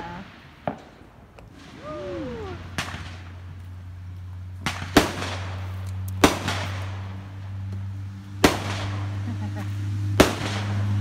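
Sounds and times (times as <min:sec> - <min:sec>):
fireworks bangs: 0:00.0 - 0:07.8, 0:08.4 - 0:11.0
low hum: 0:00.0 - 0:11.0.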